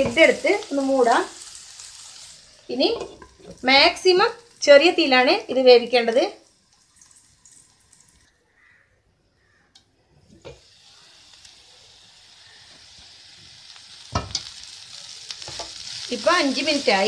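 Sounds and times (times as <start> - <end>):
stir-fry sizzling in pan: 0.0 - 8.3, 10.4 - 17.0.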